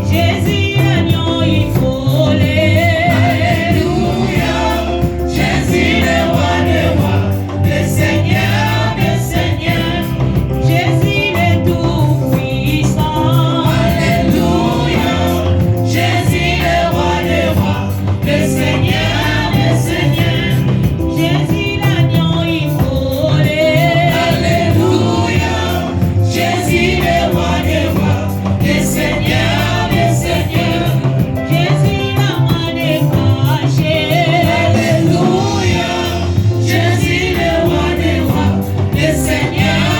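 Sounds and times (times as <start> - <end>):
choir singing gospel song: 0.0 - 39.9
instrumental backing: 0.0 - 39.9.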